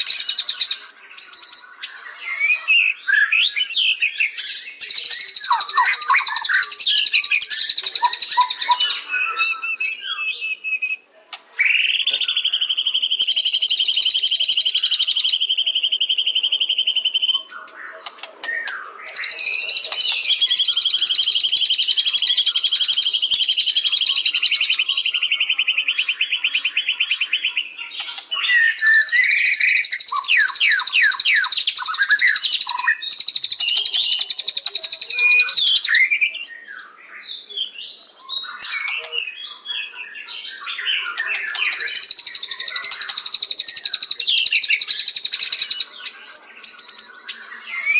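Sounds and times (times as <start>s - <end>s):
bird singing trills and whistles: 0.0s - 47.9s.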